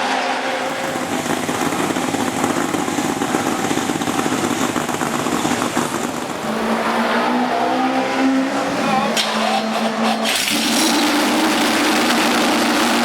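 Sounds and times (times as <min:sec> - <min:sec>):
race car engine running roughly: 0:00.0 - 0:07.4, 0:08.6 - 0:13.0.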